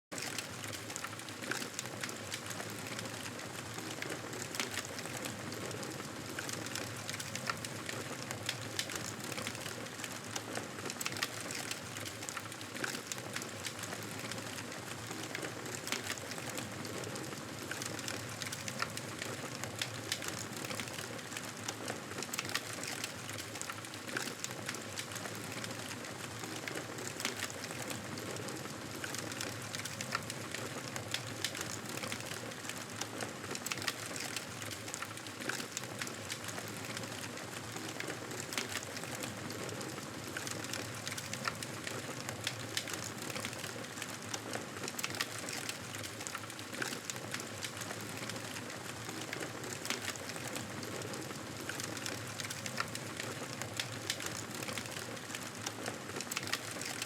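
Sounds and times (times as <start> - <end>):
campfire crackling and popping: 0.2 - 57.0.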